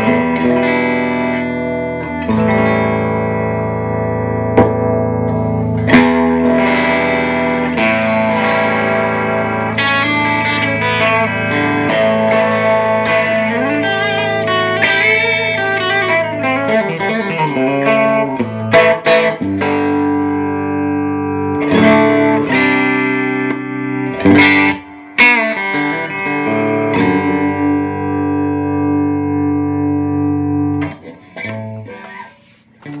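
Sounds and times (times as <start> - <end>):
electric guitar chords and lines: 0.0 - 33.0.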